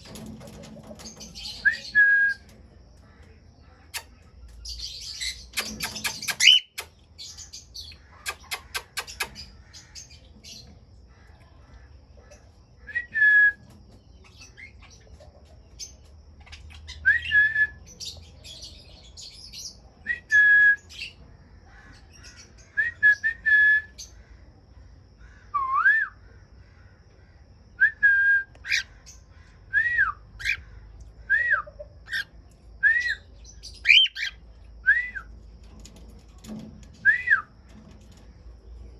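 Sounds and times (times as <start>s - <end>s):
aviary birds chirping and whistling: 0.0s - 11.1s, 12.6s - 24.3s, 27.7s - 38.9s.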